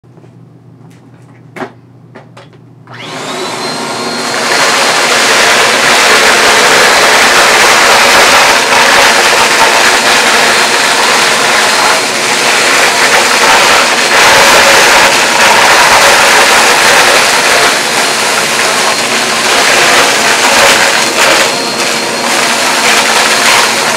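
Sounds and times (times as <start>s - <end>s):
vacuum cleaner motor roaring: 2.9s - 23.9s.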